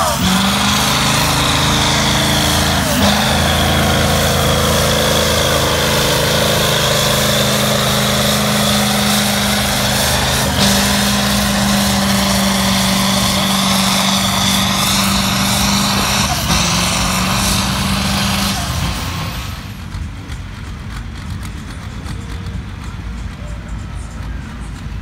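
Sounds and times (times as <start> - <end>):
tractor engine running hard: 0.0 - 25.0.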